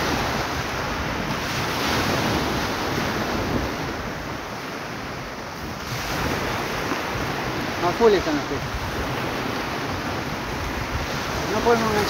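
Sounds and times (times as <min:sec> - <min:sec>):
surf washing on shore: 0:00.0 - 0:12.0
wind on microphone: 0:00.0 - 0:12.0.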